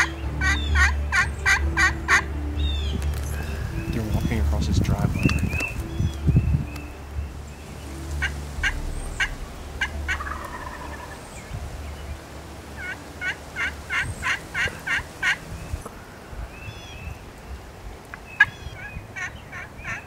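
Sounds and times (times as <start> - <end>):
wild turkeys calling: 0.0 - 4.2, 5.2 - 17.2, 18.1 - 20.0.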